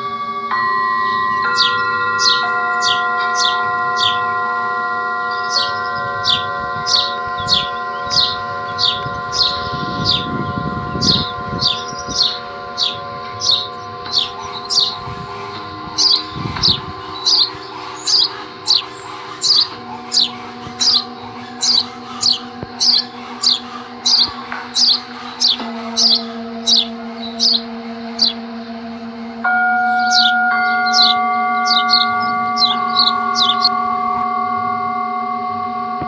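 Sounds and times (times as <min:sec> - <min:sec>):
bird chirping: 0:00.0 - 0:36.0
meditation drone tones: 0:00.0 - 0:36.0.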